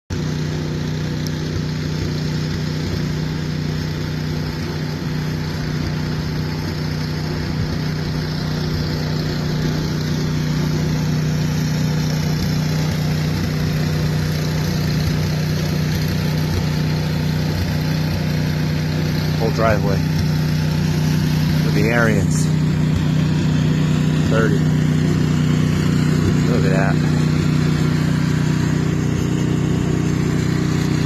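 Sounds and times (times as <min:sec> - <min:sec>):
snowblower engine running: 0:00.1 - 0:31.0.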